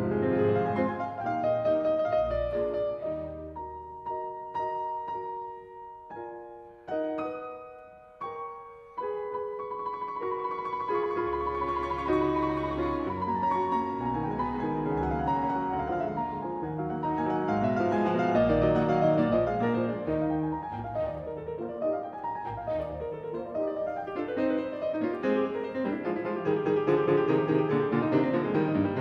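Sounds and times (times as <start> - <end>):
piano playing: 0.0 - 29.0.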